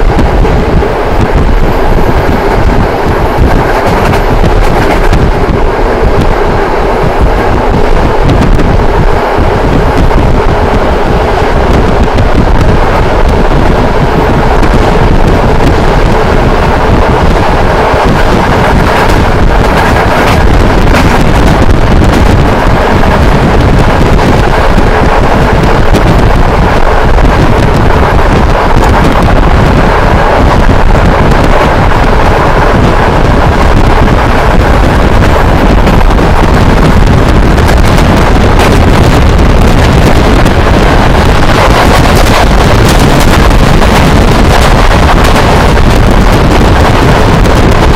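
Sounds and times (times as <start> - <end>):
moving train running noise: 0.0 - 47.9
wind buffeting microphone: 0.0 - 47.9.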